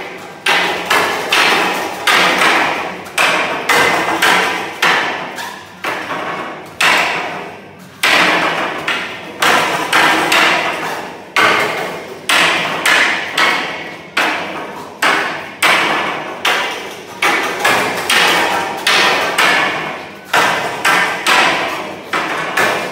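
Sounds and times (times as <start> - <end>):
wooden pole striking wooden dummy: 0.0 - 22.9.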